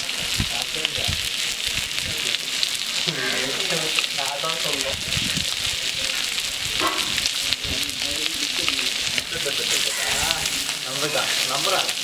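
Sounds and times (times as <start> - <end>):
fish sizzling in hot oil: 0.0 - 12.0
people talking: 0.4 - 12.0.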